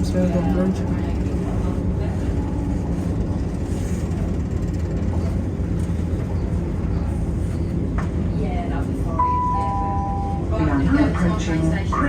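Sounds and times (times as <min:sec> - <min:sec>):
train diesel engine rumble: 0:00.0 - 0:12.0.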